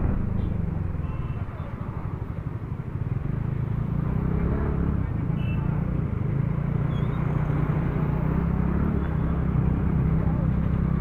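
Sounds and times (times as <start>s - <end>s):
road noise: 0.0s - 11.0s
traffic: 0.0s - 11.0s.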